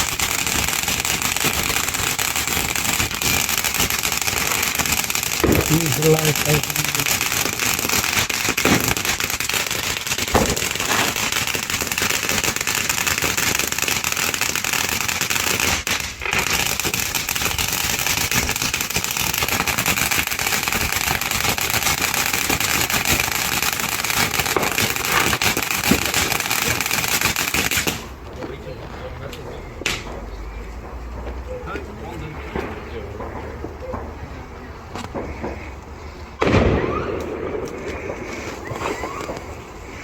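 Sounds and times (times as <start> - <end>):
firework fountain crackling: 0.0 - 40.0.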